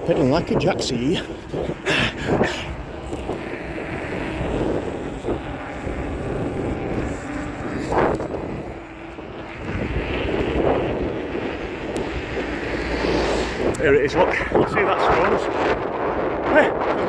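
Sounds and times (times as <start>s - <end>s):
tyre noise: 0.0s - 15.3s
electric motor whine: 0.0s - 17.0s.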